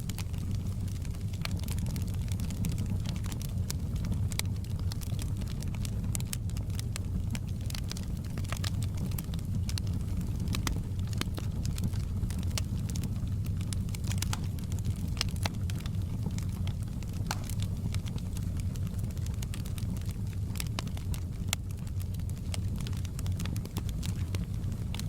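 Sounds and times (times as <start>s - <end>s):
burning logs crackling and popping: 0.0s - 25.0s
low rumble of flames: 0.0s - 25.0s.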